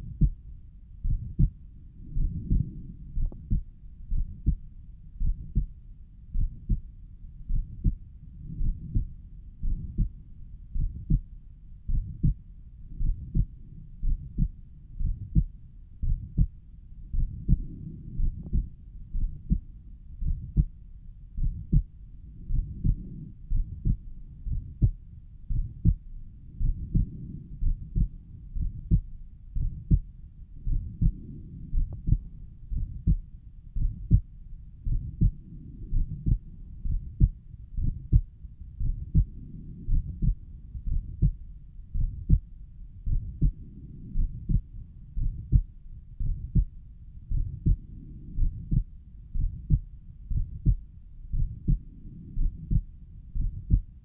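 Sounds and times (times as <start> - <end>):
heart murmur: 0.0 - 0.4, 1.0 - 4.6, 5.2 - 6.9, 7.5 - 10.2, 10.8 - 11.3, 11.9 - 20.7, 21.4 - 26.0, 26.6 - 33.2, 33.8 - 46.7, 47.3 - 54.0
heartbeat lub-dub: 0.0 - 0.4, 1.0 - 20.8, 21.4 - 54.0.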